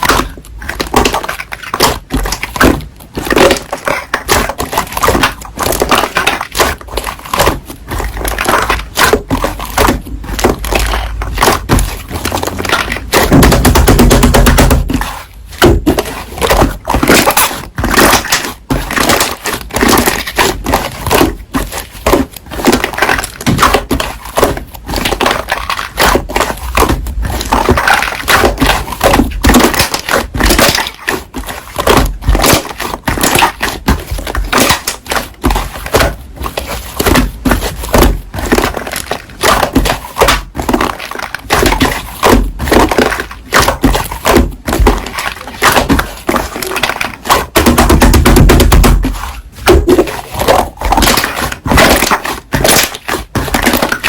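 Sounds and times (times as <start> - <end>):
slime crackling and popping: 0.0 - 54.0.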